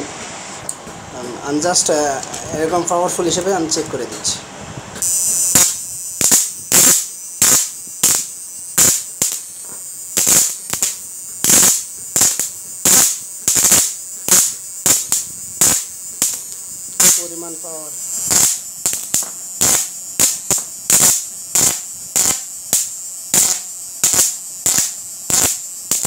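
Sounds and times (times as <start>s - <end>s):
electric arc buzzing crackles: 0.0s - 26.0s.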